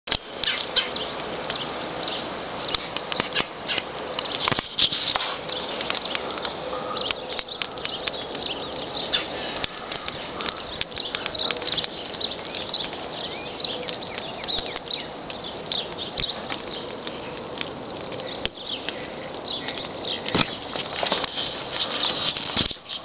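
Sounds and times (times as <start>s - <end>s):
steady hiss: 0.2s - 23.0s.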